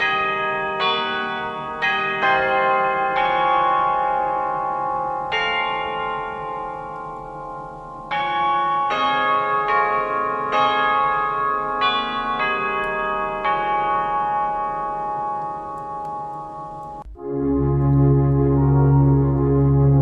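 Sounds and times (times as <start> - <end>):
bell-like organ hymn: 0.0 - 17.7.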